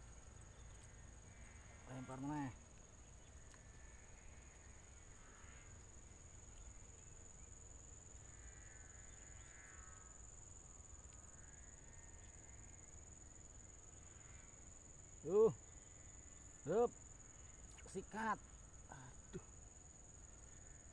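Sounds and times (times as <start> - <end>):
crickets chirping drone: 0.0 - 20.9.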